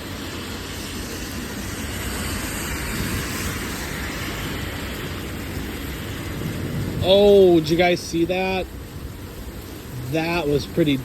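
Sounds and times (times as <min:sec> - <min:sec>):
heavy rain rushing: 0:00.0 - 0:11.0
low rumble: 0:00.0 - 0:11.0.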